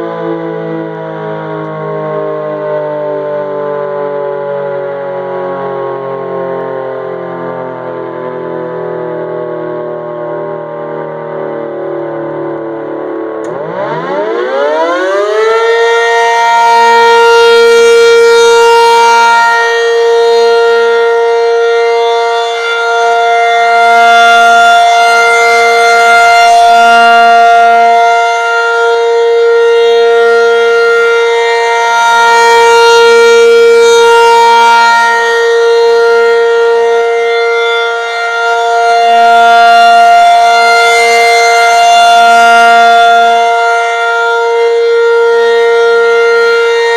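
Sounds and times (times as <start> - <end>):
two-tone warning siren wailing: 0.0 - 46.9.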